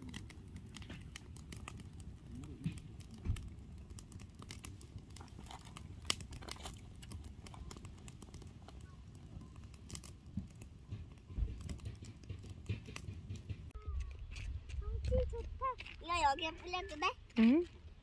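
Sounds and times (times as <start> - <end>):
firewood crackling and popping: 0.0 - 18.0.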